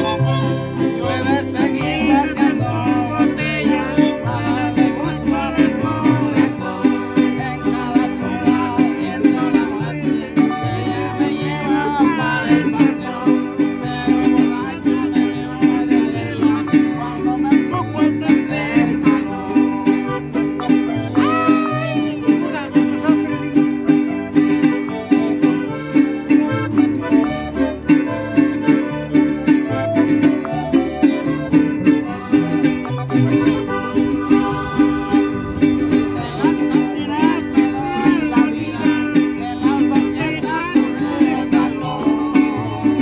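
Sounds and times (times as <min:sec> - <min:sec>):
accordion: 0:00.0 - 0:43.0
acoustic guitar: 0:00.0 - 0:43.0
bass string instrument: 0:00.0 - 0:43.0
violin: 0:00.0 - 0:43.0.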